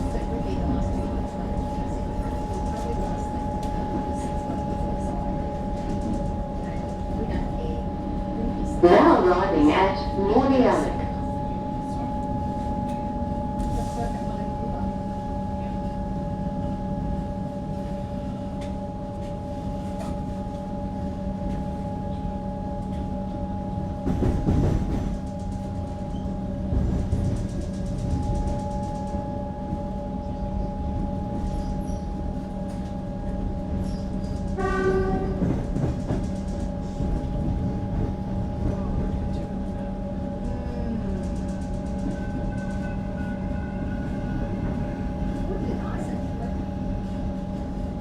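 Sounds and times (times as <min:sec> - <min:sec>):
electric train whine: 0:00.0 - 0:48.0.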